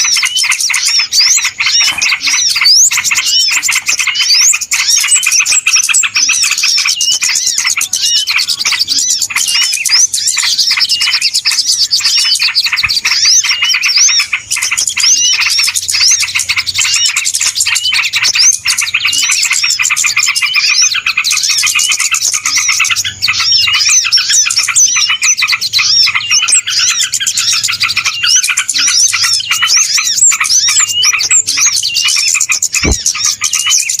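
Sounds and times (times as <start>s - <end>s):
small birds chirping and twittering: 0.0s - 34.0s.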